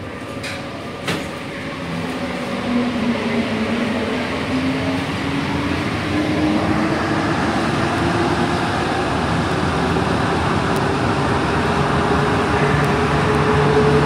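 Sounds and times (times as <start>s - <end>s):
train running noise: 0.0s - 14.0s.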